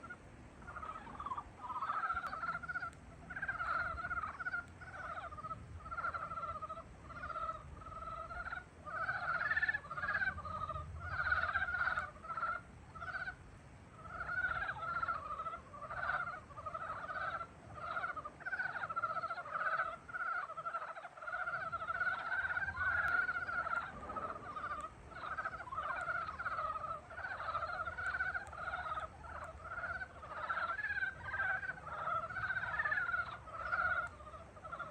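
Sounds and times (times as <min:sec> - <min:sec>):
frogs croaking in chorus: 0:00.0 - 0:34.9.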